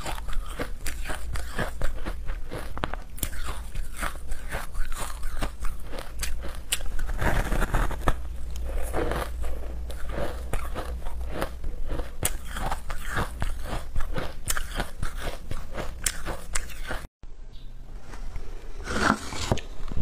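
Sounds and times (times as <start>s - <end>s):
teeth crunching ice: 0.0s - 17.1s.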